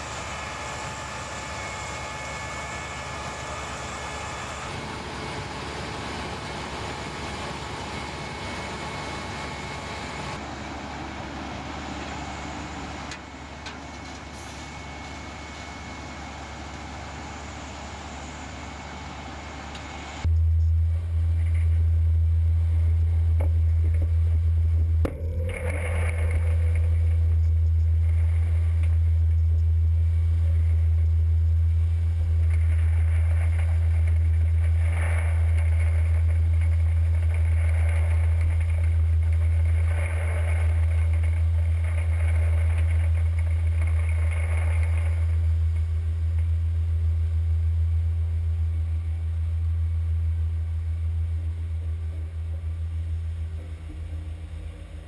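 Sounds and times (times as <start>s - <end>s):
machinery low drone: 0.0s - 55.0s.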